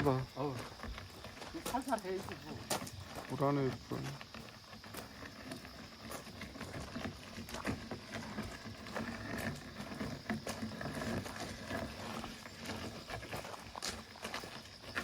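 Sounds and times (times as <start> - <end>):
firewood cart knocking and clattering: 0.0 - 15.0
footsteps: 0.0 - 15.0.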